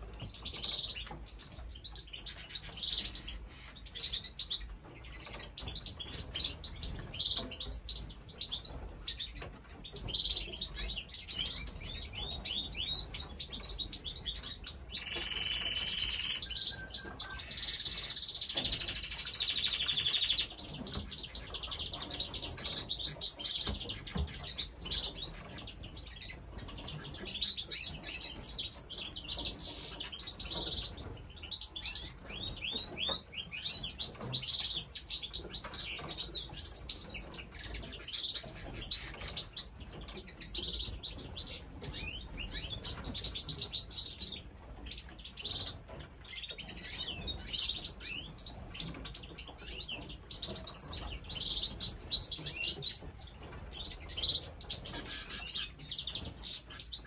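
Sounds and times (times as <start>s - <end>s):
small birds chirping and twittering: 0.0s - 57.0s.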